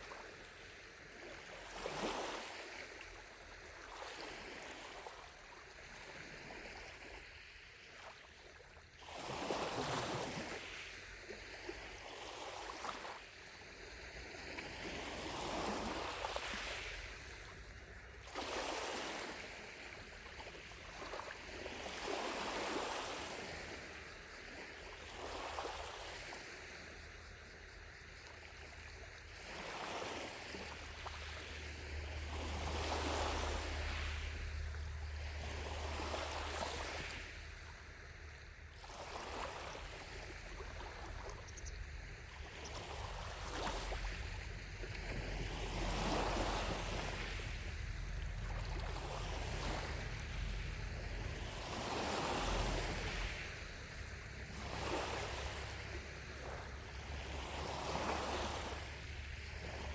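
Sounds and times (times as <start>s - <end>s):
lake waves lapping on shore: 0.0s - 59.9s.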